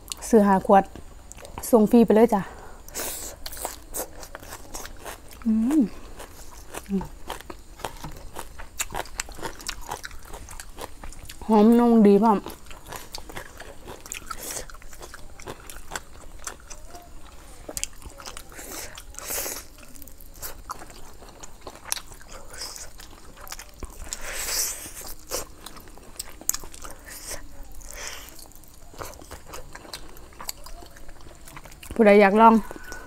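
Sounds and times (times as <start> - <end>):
wet chewing: 0.9 - 1.7, 2.8 - 33.0
crunchy bites: 2.9 - 11.5, 12.3 - 33.0.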